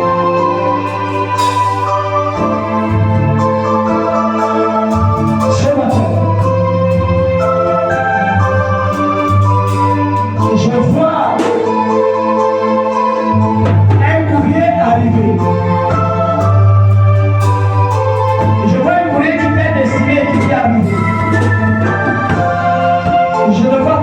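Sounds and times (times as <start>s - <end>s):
electronic organ chords: 0.0s - 24.0s.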